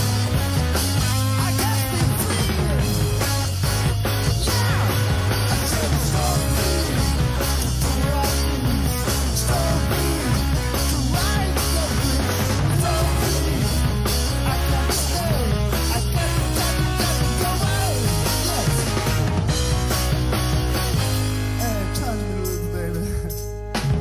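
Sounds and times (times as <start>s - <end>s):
bass and drums backing track: 0.0s - 24.0s
electric guitar lead with bends: 0.0s - 24.0s.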